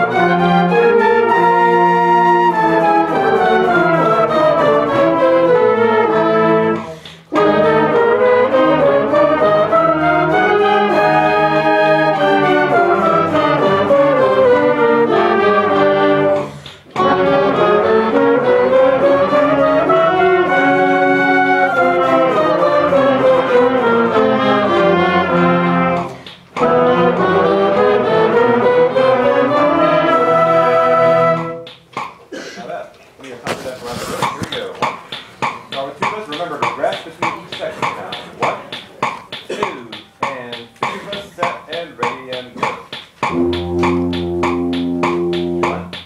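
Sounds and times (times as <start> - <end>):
concert band warm-up: 0.0 - 46.0.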